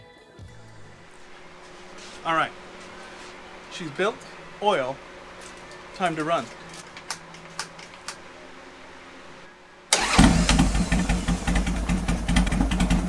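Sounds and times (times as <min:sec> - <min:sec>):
motorcycle engine starting: 0:01.2 - 0:13.0.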